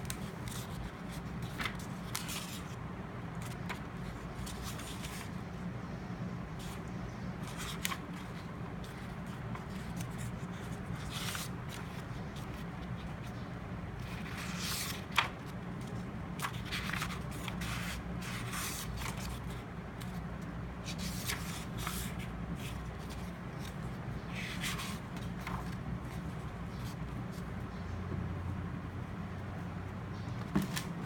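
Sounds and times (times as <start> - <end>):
paper pages rustling: 0.0 - 5.4, 6.6 - 13.4, 14.0 - 27.6, 30.4 - 31.0.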